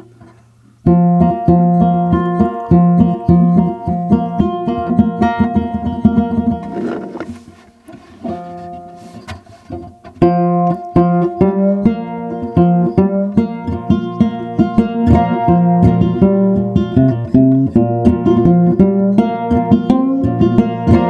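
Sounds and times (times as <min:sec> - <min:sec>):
banjo plucked notes: 0:00.8 - 0:21.0.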